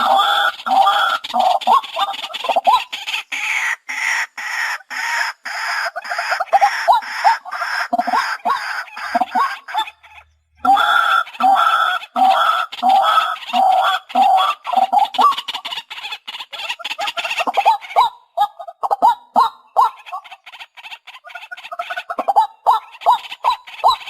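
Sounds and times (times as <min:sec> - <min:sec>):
waterhen harsh repeated calls: 0:00.0 - 0:24.0.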